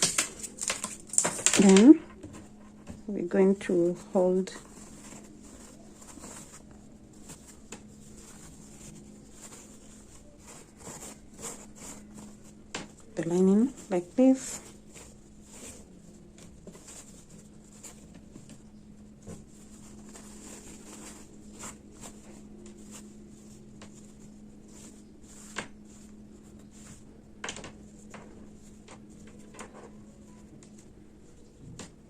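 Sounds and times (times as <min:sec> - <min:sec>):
fabric rustling and tapping: 0:00.0 - 0:31.0
low steady hum: 0:00.0 - 0:32.0.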